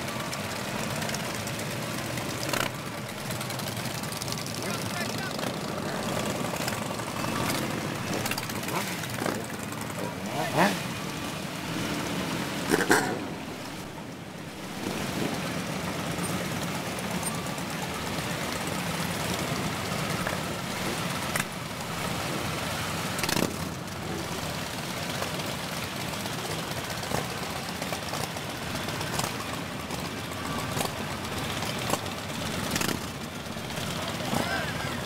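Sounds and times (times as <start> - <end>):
motorcycle engines idling: 0.0 - 35.0.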